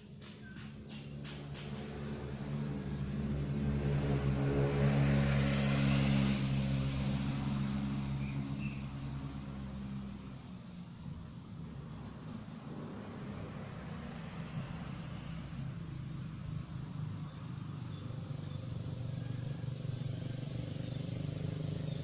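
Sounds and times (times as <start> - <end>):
vehicle engine passing by: 0.0 - 22.0.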